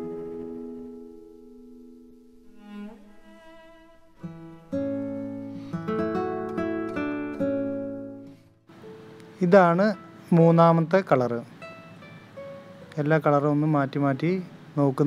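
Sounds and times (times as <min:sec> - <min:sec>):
guitar music: 0:00.0 - 0:14.7.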